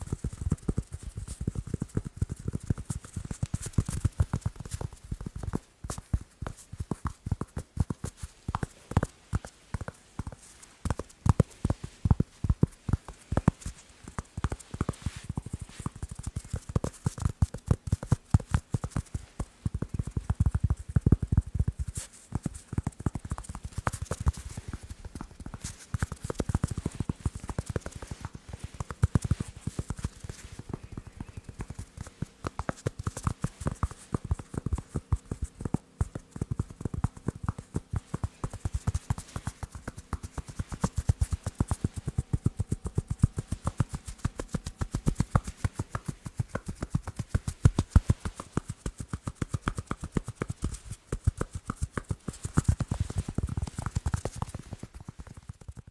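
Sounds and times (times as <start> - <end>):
fingers tapping on balls: 0.0 - 55.9.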